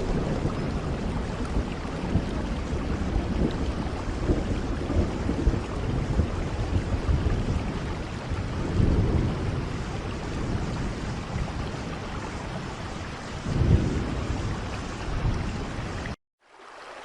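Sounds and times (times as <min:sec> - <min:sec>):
thunder rumbling: 0:00.0 - 0:16.2
heavy rain: 0:00.0 - 0:17.0.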